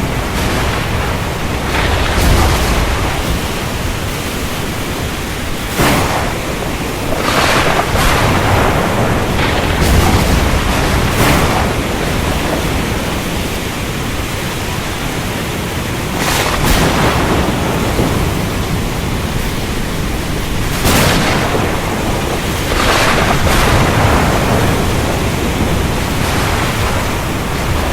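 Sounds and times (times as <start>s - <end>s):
sharp thunder cracks: 0.0s - 14.9s, 16.1s - 27.9s
thunder: 0.0s - 15.2s, 16.1s - 27.9s
heavy rain: 0.0s - 27.9s.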